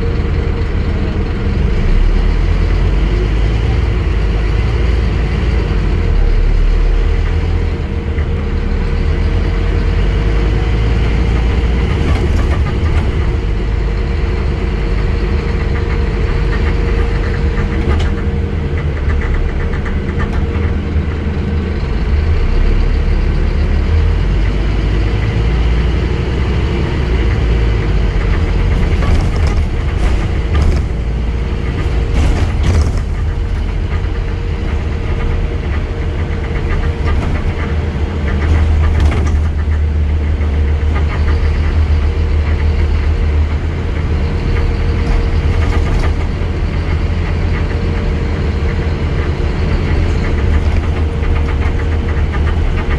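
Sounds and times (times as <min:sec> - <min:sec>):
bus diesel engine droning: 0:00.0 - 0:52.9
rattles and knocks: 0:00.0 - 0:52.9.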